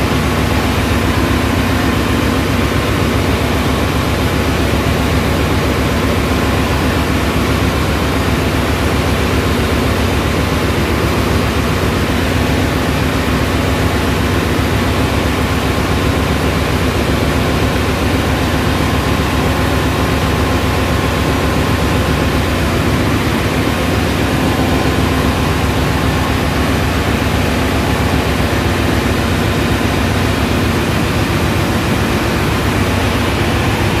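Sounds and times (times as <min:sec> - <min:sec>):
engine room machinery running: 0:00.0 - 0:34.0.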